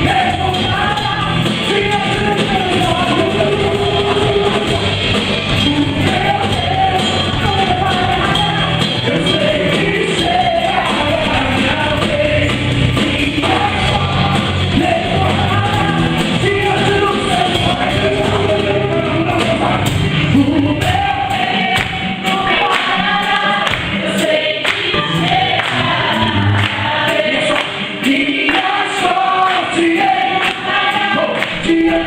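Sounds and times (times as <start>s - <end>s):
lead vocal singing: 0.0s - 32.0s
worship band playing: 0.0s - 32.0s.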